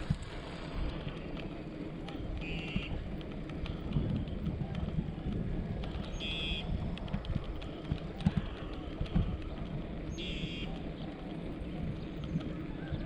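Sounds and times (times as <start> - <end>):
bicycle ride rumble: 0.0 - 13.0
wind buffeting microphone: 0.0 - 13.0.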